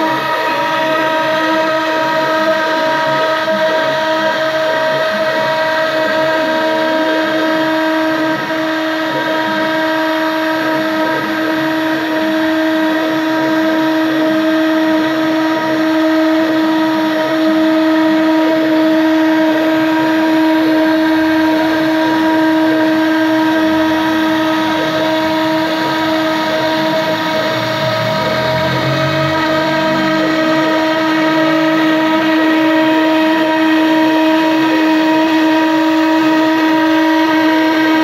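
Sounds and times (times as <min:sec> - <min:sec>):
engraving machine spindle whine: 0:00.0 - 0:38.0.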